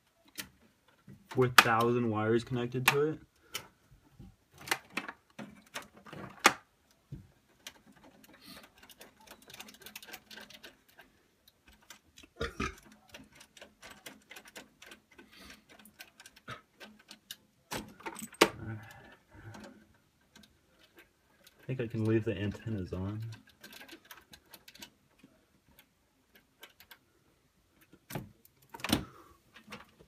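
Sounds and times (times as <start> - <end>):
cable connectors clicking and knocking: 0.0 - 30.0.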